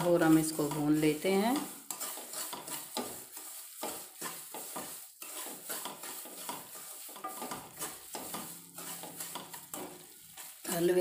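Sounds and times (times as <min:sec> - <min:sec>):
ghee sizzling: 0:00.0 - 0:11.0
wooden spatula scraping a pan: 0:00.0 - 0:11.0.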